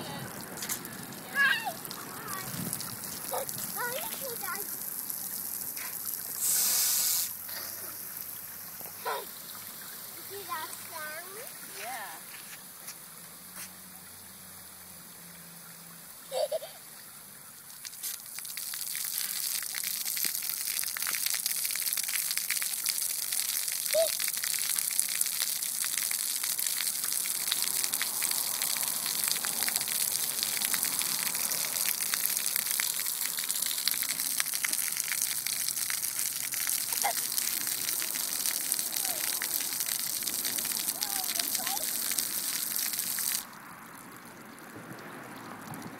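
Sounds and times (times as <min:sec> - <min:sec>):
water jets spraying on concrete: 0:00.0 - 0:45.9.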